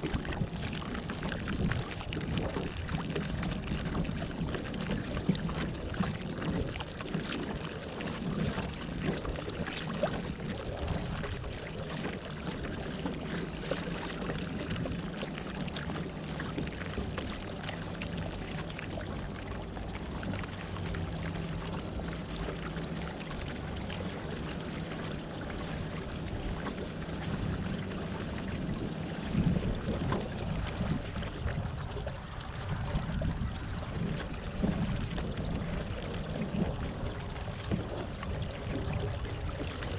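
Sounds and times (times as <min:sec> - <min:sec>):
faint low hum: 0:00.0 - 0:39.9
water rushing and splashing: 0:00.0 - 0:39.9.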